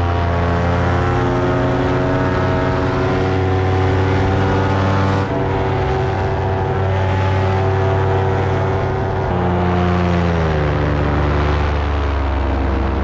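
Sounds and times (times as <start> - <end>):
paramotor engine droning: 0.0 - 13.0.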